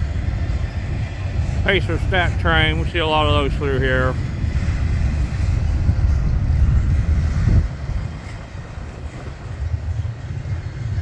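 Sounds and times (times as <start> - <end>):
train rolling past rumbling: 0.0 - 11.0.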